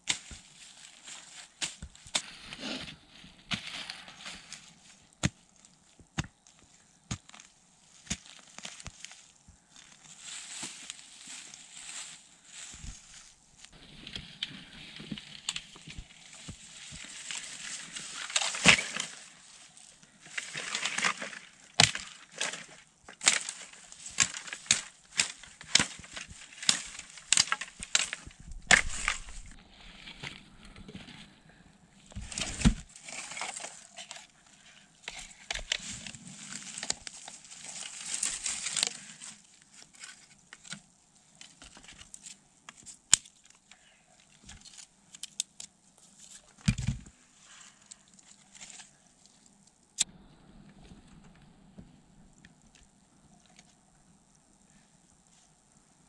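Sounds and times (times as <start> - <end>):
rustling: 0.0 - 44.9
dry snaps and crunches: 3.5 - 31.1, 32.1 - 56.0.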